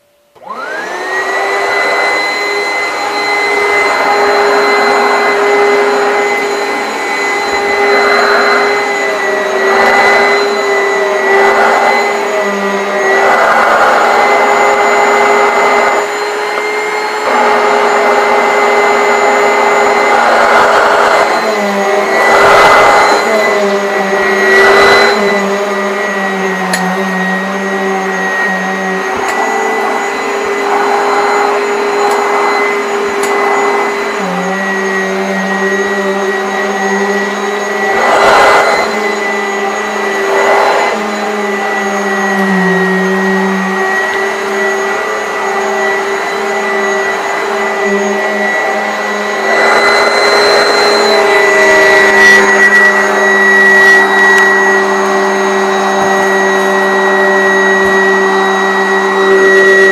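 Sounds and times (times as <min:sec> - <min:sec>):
upright vacuum cleaner whining: 0:00.0 - 0:59.9.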